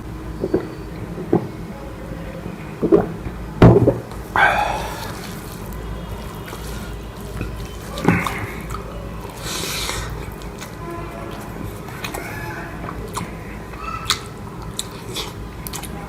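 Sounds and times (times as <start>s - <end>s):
wet squelches: 0.0s - 1.7s, 2.6s - 16.0s
eating sounds: 2.5s - 16.0s.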